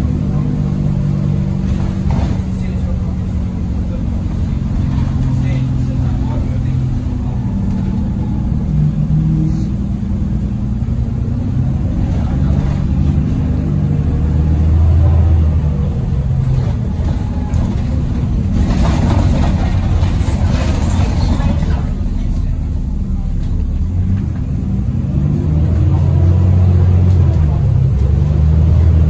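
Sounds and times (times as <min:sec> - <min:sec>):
bus engine accelerating: 0:00.0 - 0:29.0.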